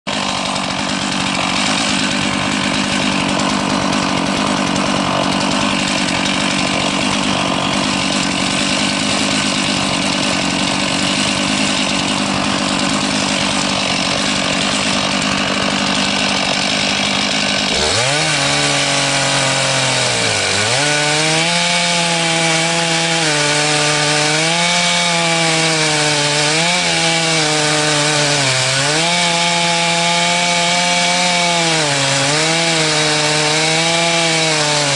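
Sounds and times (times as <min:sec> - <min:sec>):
chainsaw cutting through log: 0:00.0 - 0:34.9.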